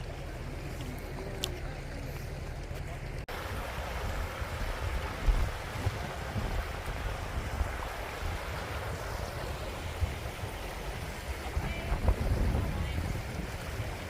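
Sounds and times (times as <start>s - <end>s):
coach road and engine noise: 0.0s - 13.8s.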